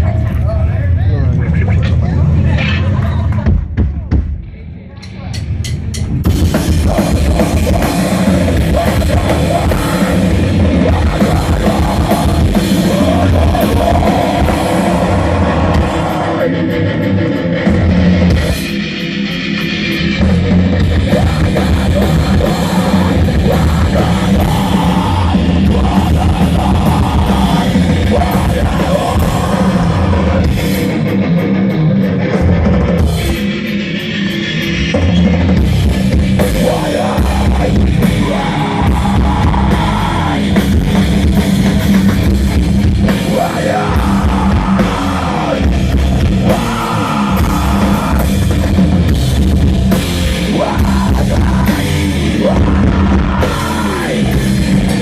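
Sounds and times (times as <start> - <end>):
guitar: 0.0 - 55.0
live rock band playing: 0.0 - 55.0
pounding drum kit: 0.0 - 55.0.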